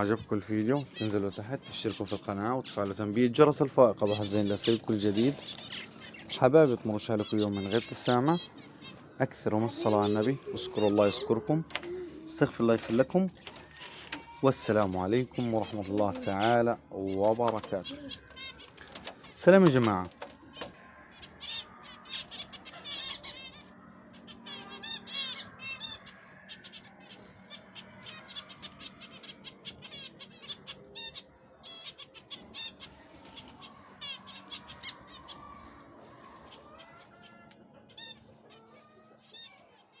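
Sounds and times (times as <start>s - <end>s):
birds chirping and calling: 0.0s - 40.0s.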